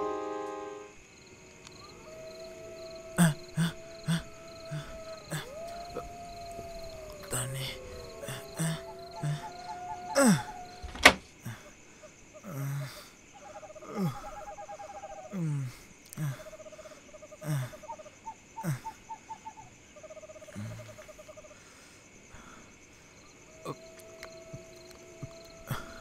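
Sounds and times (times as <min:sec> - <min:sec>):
insects chirring: 0:00.0 - 0:26.0
frogs trilling: 0:00.9 - 0:26.0.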